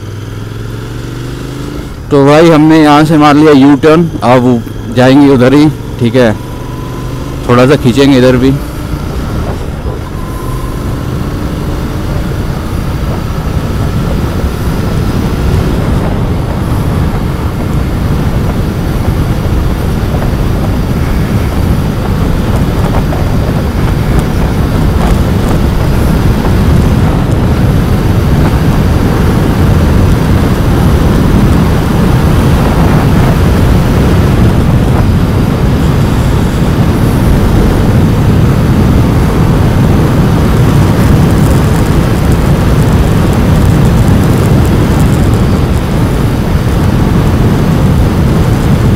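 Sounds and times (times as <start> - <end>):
motorcycle engine accelerating: 0.0 - 48.9
road and air rush: 0.0 - 48.9.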